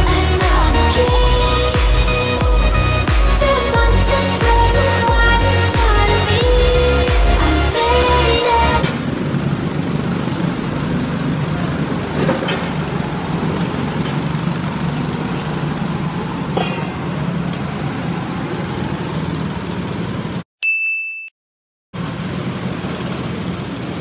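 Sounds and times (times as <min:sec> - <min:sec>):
go-kart engines idling: 0:00.0 - 0:20.4, 0:22.0 - 0:24.0.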